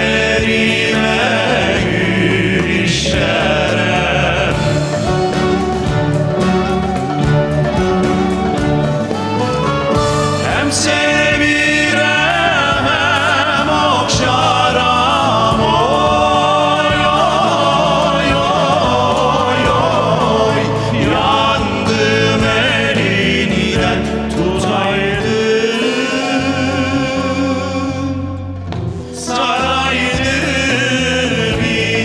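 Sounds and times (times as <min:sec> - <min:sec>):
instrumental accompaniment: 0:00.0 - 0:32.0
men singing folk song with vibrato: 0:00.0 - 0:32.0.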